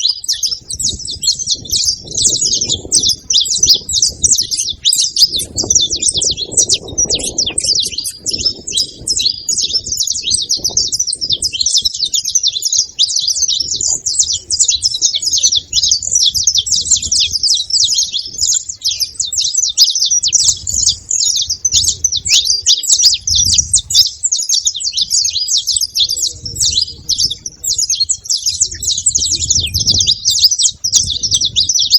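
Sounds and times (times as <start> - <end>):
finches chirping and singing: 0.0 - 31.9.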